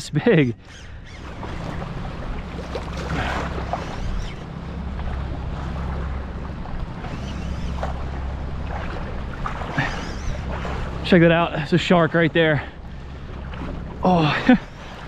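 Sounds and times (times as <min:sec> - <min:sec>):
low steady rumble: 0:00.0 - 0:15.0
water sloshing and splashing: 0:00.3 - 0:15.0.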